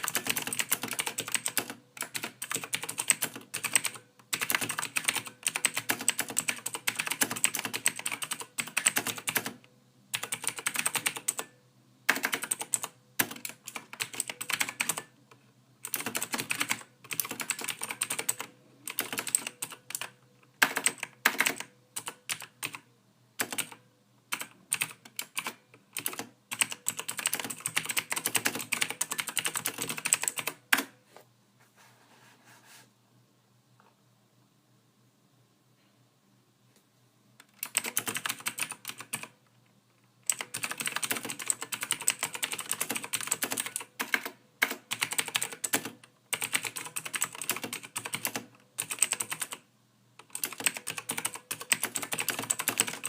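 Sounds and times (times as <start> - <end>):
computer keyboard typing: 0.0 - 11.5, 12.1 - 15.1, 15.8 - 22.8, 23.4 - 30.9, 37.4 - 39.4, 40.2 - 53.0.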